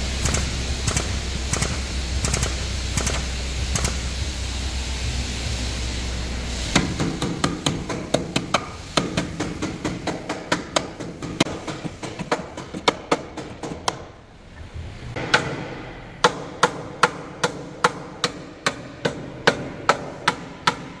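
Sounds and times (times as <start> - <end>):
hammer striking steel: 0.2 - 4.1, 6.7 - 14.1, 15.2 - 21.0.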